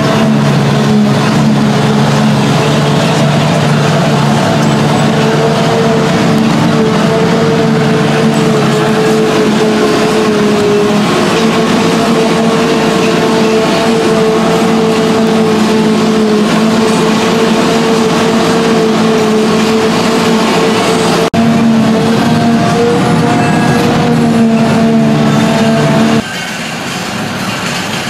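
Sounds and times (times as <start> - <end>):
drone propellers humming: 0.0 - 26.2.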